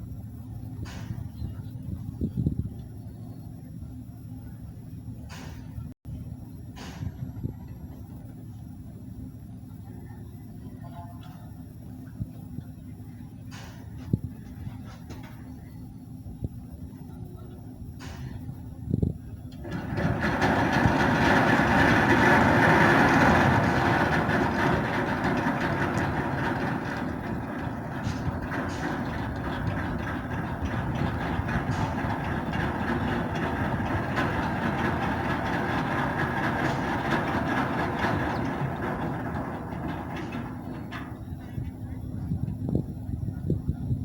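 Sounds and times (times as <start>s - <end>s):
faint hum: 0.0s - 44.0s
ship machinery rumbling: 0.0s - 44.0s.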